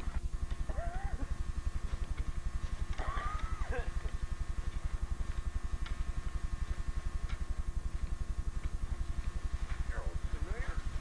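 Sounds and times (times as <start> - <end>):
camcorder pulsing hum: 0.0 - 11.0
faint whine: 0.0 - 11.0.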